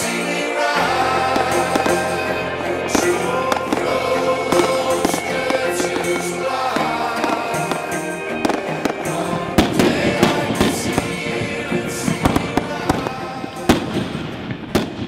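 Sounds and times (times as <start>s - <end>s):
background music: 0.0s - 15.0s
fireworks bangs: 1.3s - 15.0s.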